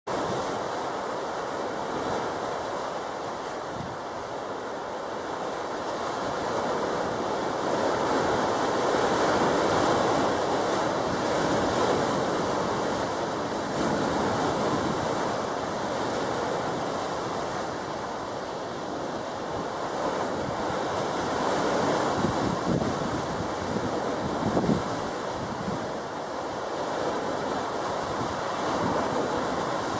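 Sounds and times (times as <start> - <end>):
sea waves washing: 0.1 - 29.9
wind buffeting microphone: 5.5 - 29.9.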